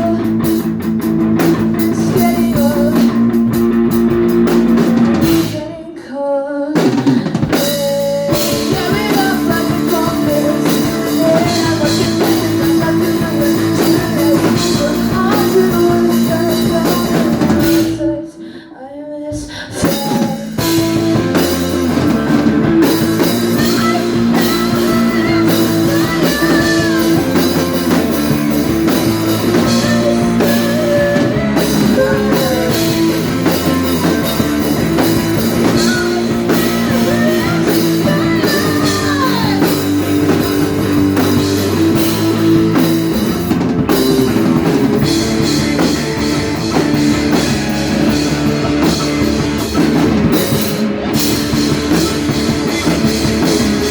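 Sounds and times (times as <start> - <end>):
person singing: 0.0 - 0.8, 1.8 - 3.5, 5.2 - 53.9
drum kit: 0.0 - 5.9, 6.7 - 18.1, 19.7 - 53.9
electric guitar: 0.0 - 5.9, 6.8 - 18.6, 19.5 - 53.9.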